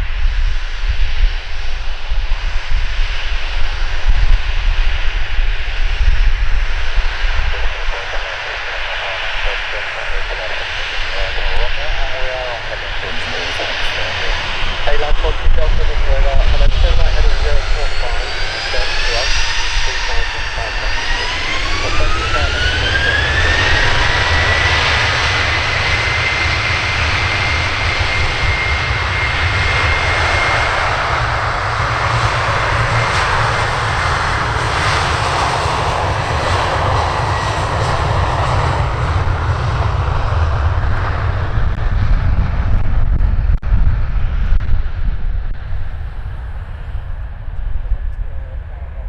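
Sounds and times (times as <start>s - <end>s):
jet engine high whine: 0.0s - 49.0s
jet engine roar: 0.0s - 49.0s.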